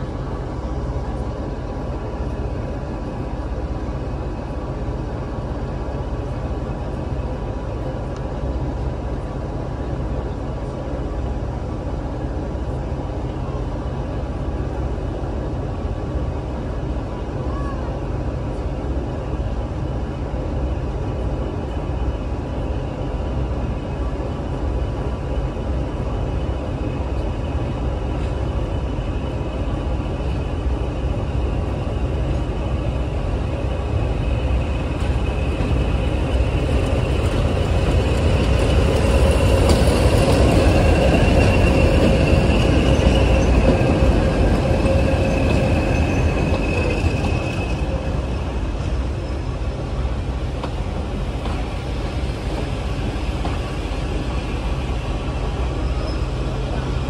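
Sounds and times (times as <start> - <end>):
diesel locomotive engine rumble: 0.0 - 57.0
locomotive whine: 0.0 - 57.0
train coaches rolling by: 0.0 - 57.0.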